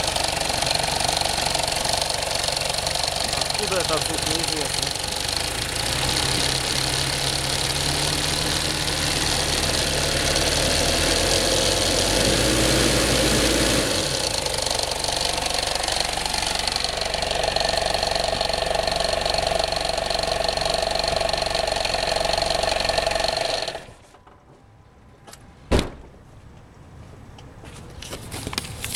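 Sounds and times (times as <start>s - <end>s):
diesel engine running roughly: 0.0s - 24.0s.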